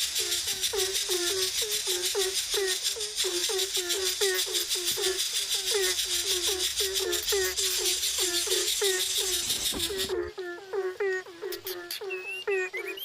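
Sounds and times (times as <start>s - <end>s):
bird calling rapid raspy notes: 0.0s - 13.0s.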